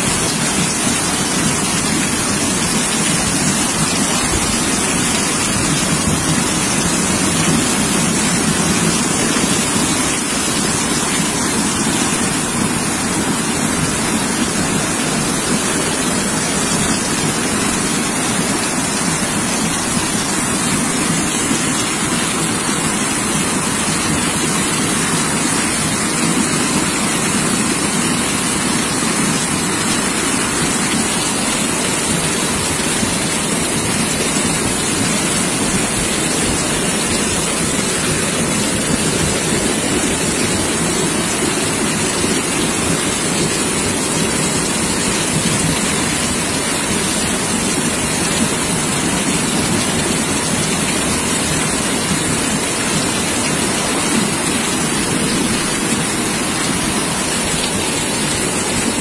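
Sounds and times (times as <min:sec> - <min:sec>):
flood torrent rushing: 0:00.0 - 0:59.0
heavy rain pouring: 0:00.0 - 0:59.0.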